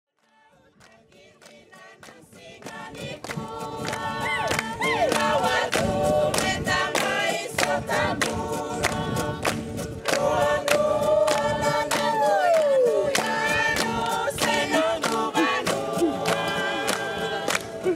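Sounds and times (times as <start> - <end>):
hand clapping: 0.2 - 17.9
group singing in harmony: 0.3 - 17.9
acoustic guitar strumming: 2.4 - 17.9.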